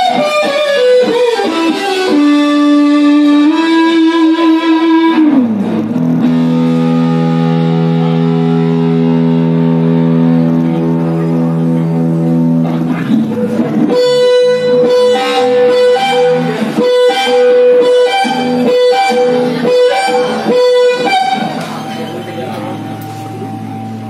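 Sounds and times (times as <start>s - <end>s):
electric guitar playing: 0.0s - 24.0s.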